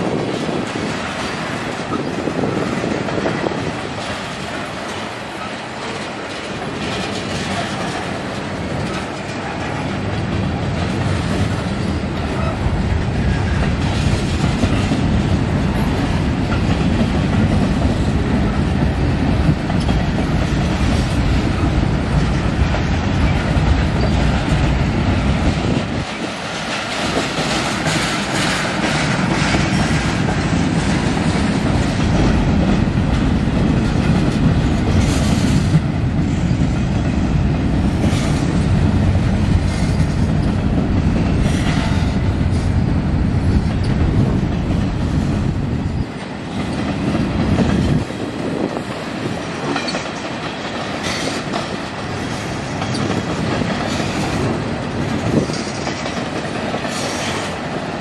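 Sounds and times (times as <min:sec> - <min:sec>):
steel wheels rumbling on rail: 0:00.0 - 0:58.0
wheels clacking over rail joints: 0:00.0 - 0:58.0.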